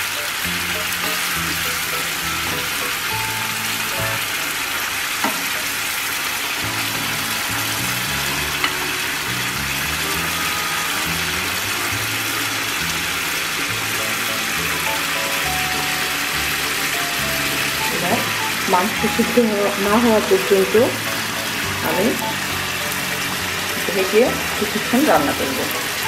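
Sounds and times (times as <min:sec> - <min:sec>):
background music: 0:00.0 - 0:04.6, 0:06.6 - 0:26.0
curry sizzling in a wok: 0:00.0 - 0:26.0.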